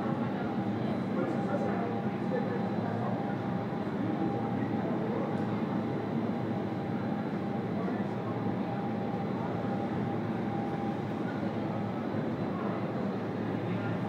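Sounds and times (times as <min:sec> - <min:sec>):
rush of air in a wind tunnel: 0:00.0 - 0:14.0.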